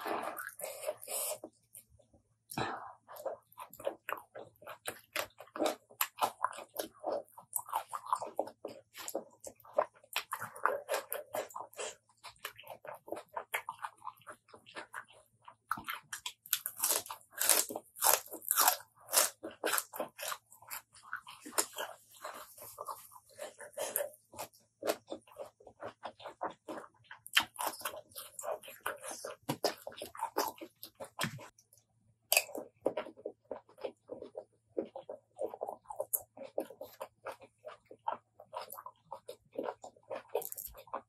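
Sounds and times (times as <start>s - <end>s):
wet chewing: 0.0s - 41.0s.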